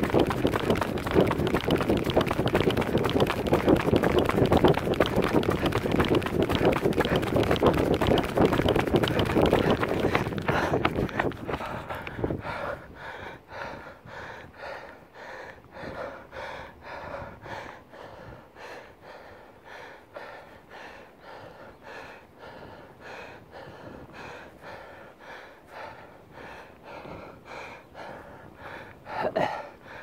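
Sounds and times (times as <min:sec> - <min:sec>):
runner panting hard: 0:00.0 - 0:30.0.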